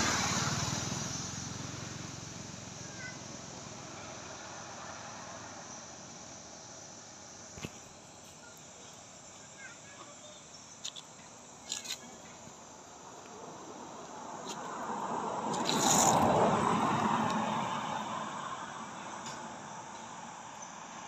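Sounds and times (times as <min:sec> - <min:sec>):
broad rush of noise: 0:00.0 - 0:21.0
insects: 0:00.0 - 0:21.0.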